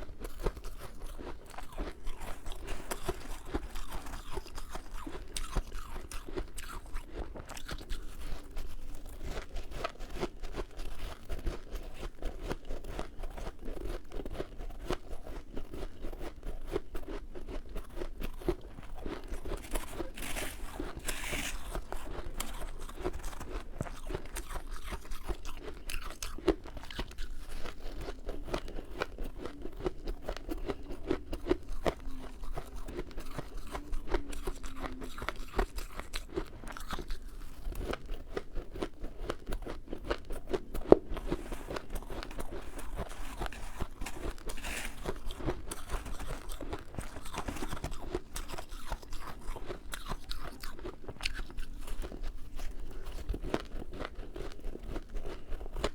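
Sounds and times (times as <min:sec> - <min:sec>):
frost being chewed crunching: 0:00.0 - 0:55.9.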